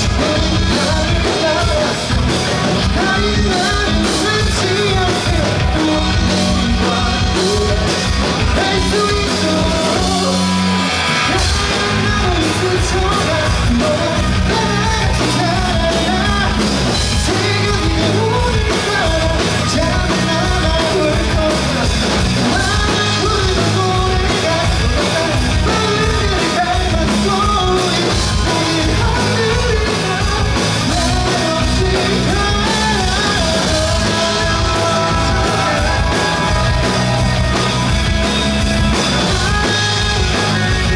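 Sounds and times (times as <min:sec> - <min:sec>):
person singing: 0:00.0 - 0:40.9
rock band playing live: 0:00.0 - 0:40.9.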